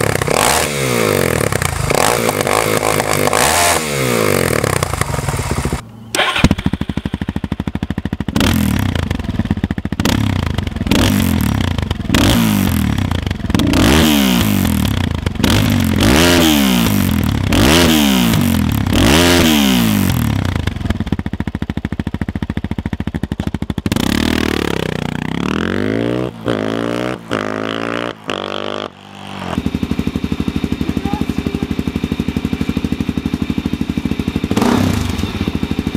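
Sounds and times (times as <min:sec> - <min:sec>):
motorcycle engine revving: 0:00.0 - 0:35.9
motorcycle engine running steadily: 0:00.0 - 0:35.9.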